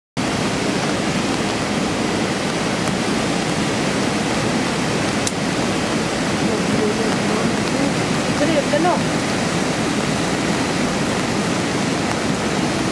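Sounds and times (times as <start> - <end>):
floodwater rushing: 0.2 - 12.9.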